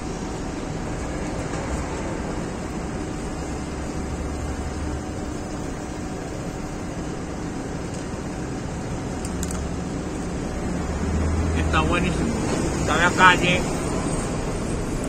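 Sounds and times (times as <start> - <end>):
low engine rumble: 0.0 - 15.0
street traffic noise: 0.0 - 15.0.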